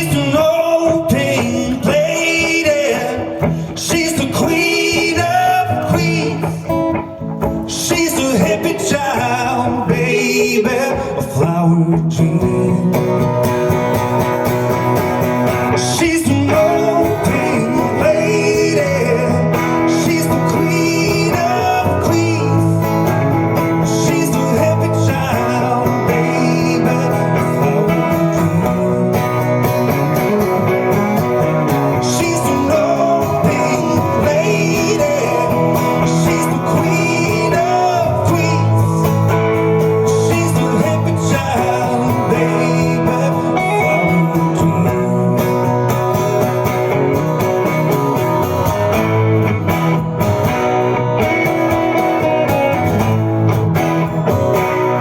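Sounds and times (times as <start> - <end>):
live country band playing: 0.0 - 55.0.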